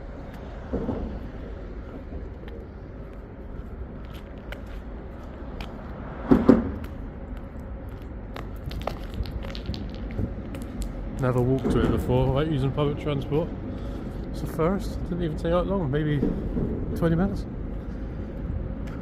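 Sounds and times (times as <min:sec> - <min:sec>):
city noise rumble: 0:00.0 - 0:19.0.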